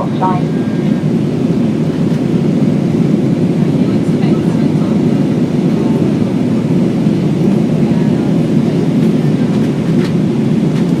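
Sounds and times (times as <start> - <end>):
airplane cabin engine and airflow noise: 0.0 - 11.0.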